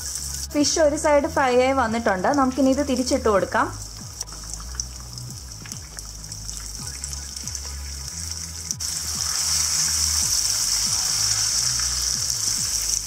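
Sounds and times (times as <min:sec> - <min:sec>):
fish sizzling in oil: 0:00.0 - 0:13.0
soft background music: 0:00.0 - 0:13.0.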